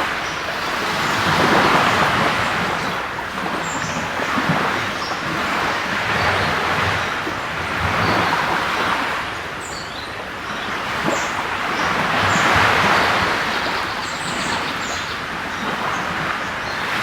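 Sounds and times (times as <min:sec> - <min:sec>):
sea waves on a beach: 0:00.0 - 0:17.0.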